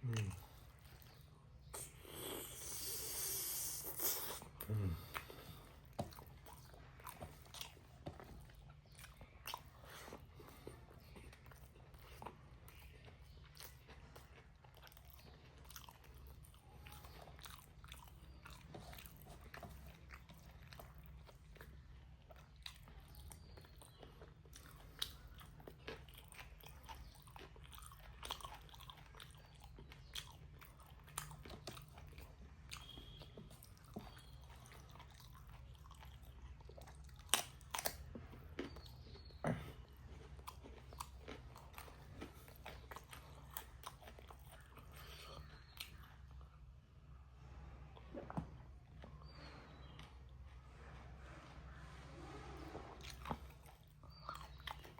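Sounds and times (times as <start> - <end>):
person chewing food: 0.0 - 50.8, 51.7 - 54.9
faint low hum: 0.0 - 54.9.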